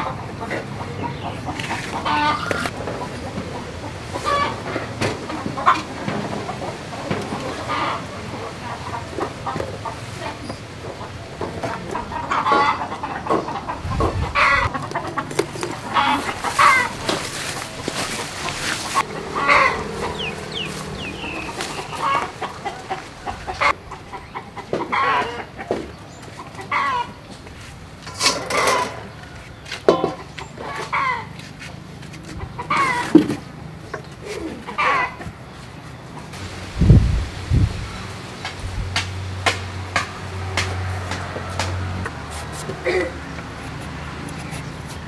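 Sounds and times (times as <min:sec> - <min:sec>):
chicken calls: 0:00.0 - 0:36.4
chickens clucking: 0:00.0 - 0:36.4, 0:37.5 - 0:45.0.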